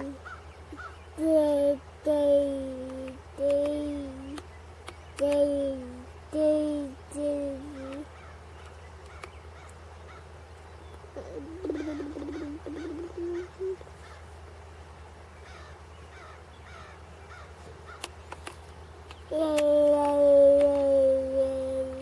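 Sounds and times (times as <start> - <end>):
bird calling: 0.0 - 22.0.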